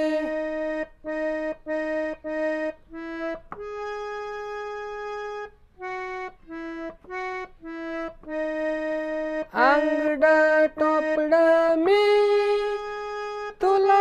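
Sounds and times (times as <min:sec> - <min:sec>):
harmonium melody: 0:00.0 - 0:14.0.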